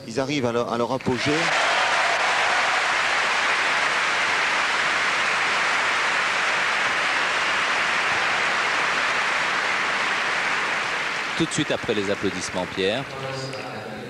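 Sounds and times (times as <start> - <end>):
crowd applauding: 1.1 - 13.6.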